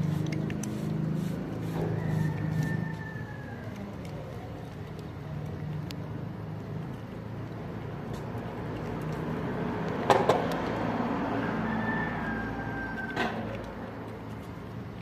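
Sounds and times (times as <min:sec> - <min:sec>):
cat crunching dry kibble: 0:00.0 - 0:11.1, 0:13.4 - 0:15.0
traffic rumble: 0:00.0 - 0:15.0.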